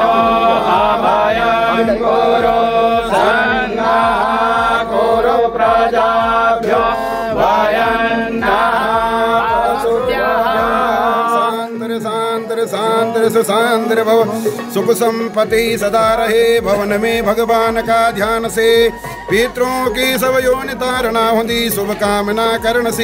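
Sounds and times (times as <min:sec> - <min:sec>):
voices chanting: 0:00.0 - 0:23.0.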